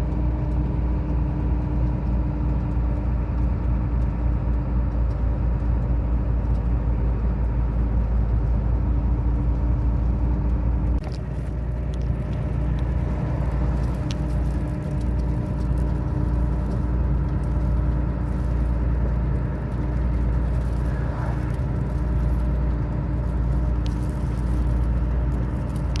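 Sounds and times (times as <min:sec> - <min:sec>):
diesel truck engine humming: 0:00.0 - 0:26.0.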